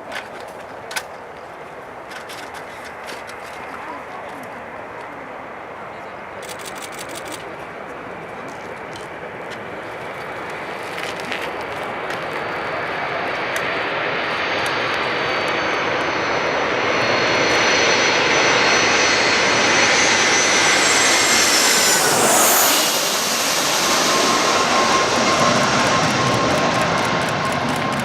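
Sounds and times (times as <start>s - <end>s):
jet airliner passing overhead: 0.1s - 28.0s
high engine whine: 2.2s - 28.0s.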